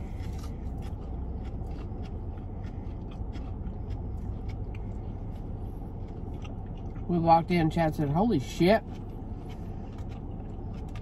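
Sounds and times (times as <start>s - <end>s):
car cabin hum: 0.0s - 11.0s
chewing fried chicken: 0.0s - 11.0s.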